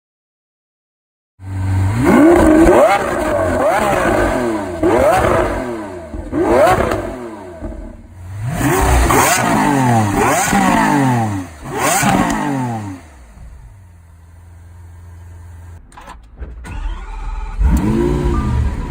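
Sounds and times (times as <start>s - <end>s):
car engine revving: 1.4s - 15.8s, 16.7s - 18.9s
car engine idling: 1.4s - 18.9s.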